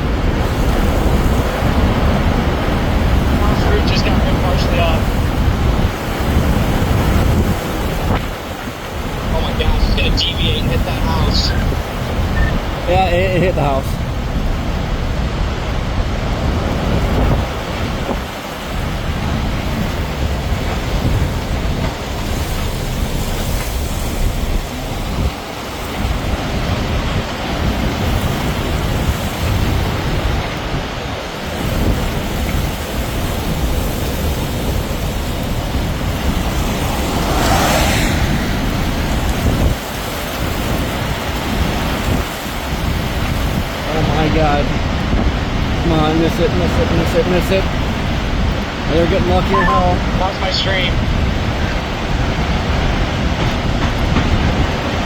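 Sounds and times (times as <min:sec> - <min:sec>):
tornado roaring: 0:00.0 - 0:55.0
wind gusting on microphone: 0:00.0 - 0:55.0.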